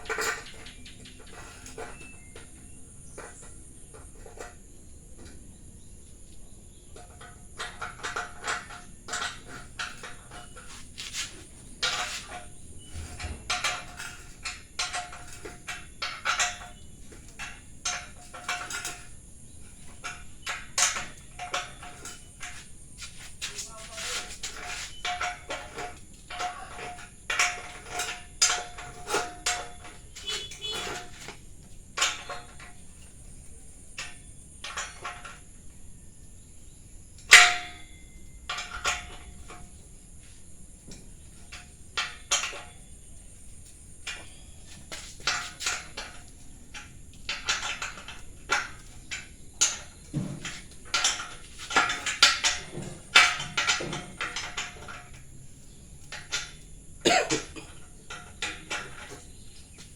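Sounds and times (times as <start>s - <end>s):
steel parts clinking together: 7.0s - 35.5s, 37.2s - 39.8s, 40.8s - 59.9s.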